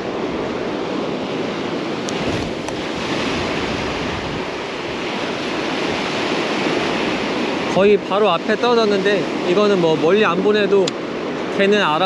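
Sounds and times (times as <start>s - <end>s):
surf washing up a beach: 0.0s - 12.0s
wind buffeting microphone: 0.0s - 12.0s.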